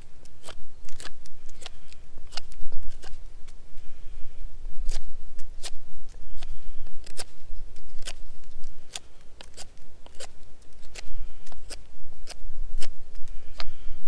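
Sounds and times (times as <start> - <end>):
knife scraping wood: 0.0 - 3.6, 4.8 - 13.7.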